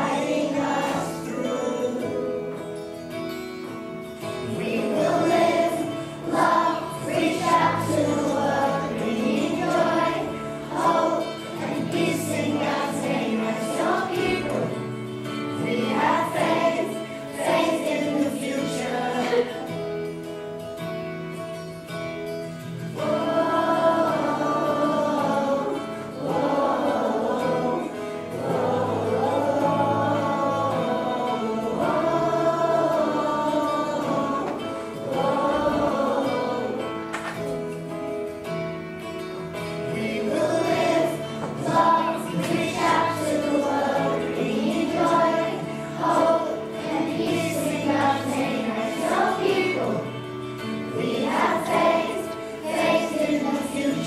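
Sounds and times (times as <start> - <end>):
children's choir singing: 0.0 - 54.0
musical accompaniment: 0.0 - 54.0.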